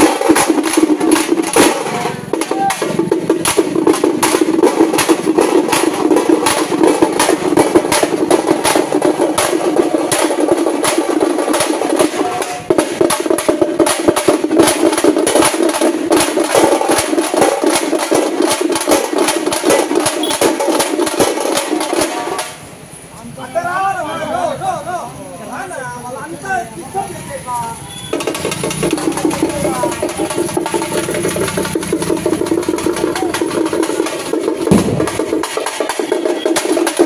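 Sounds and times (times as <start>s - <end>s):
frame drums beaten with sticks: 0.0s - 22.8s, 28.1s - 37.0s.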